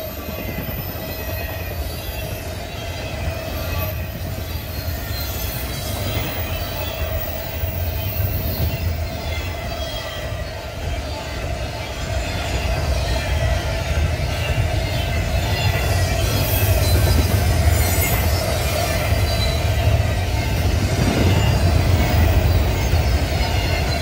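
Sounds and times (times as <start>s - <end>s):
wheel squeal: 0.0s - 11.0s, 12.2s - 24.0s
freight train rumbling: 0.0s - 24.0s.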